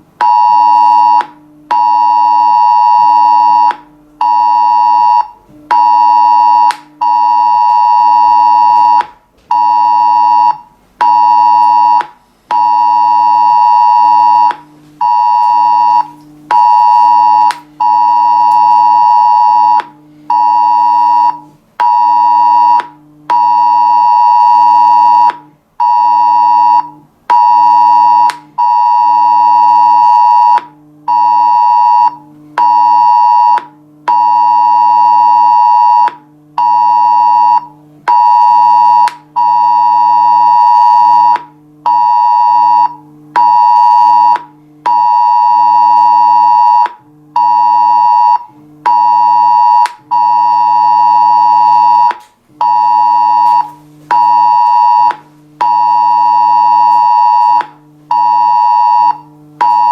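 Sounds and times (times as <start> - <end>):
phone emergency alert beeps: 0.2 - 59.9.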